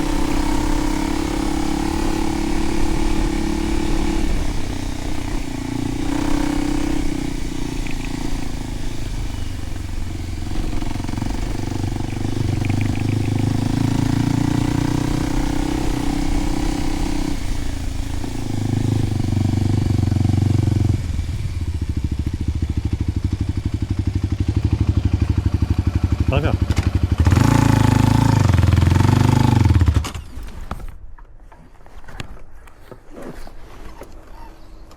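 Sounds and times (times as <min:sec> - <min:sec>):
motorcycle engine running: 0:00.0 - 0:30.1.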